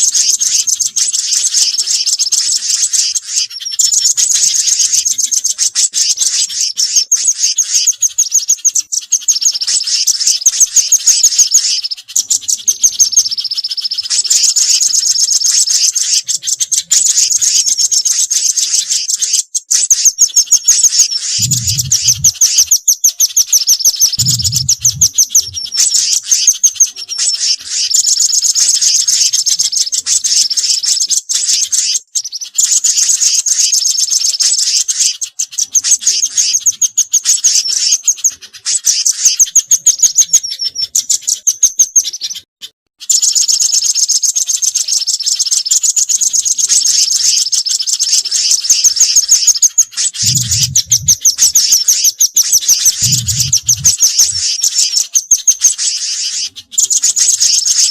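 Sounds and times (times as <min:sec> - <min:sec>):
small birds chirping trills: 0:00.0 - 0:57.9.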